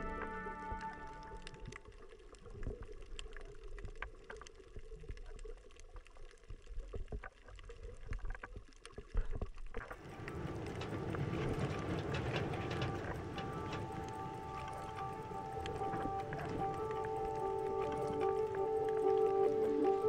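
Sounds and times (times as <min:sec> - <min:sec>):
low rumble of water: 0:00.0 - 0:20.0
underwater clicks and crackles: 0:00.0 - 0:20.0.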